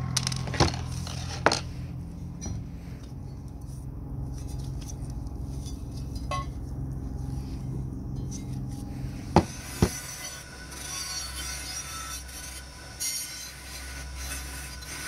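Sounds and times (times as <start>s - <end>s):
wire wheel brushing metal: 0.0s - 15.0s.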